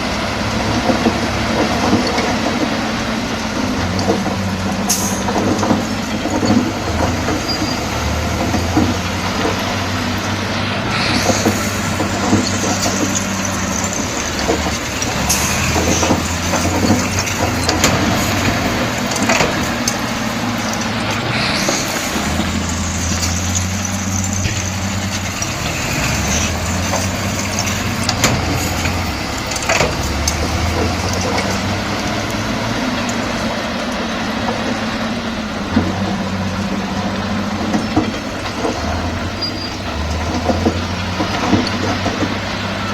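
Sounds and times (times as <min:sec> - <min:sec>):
bulldozer diesel engine: 0:00.0 - 0:42.9
steel tracks clattering: 0:00.0 - 0:42.9.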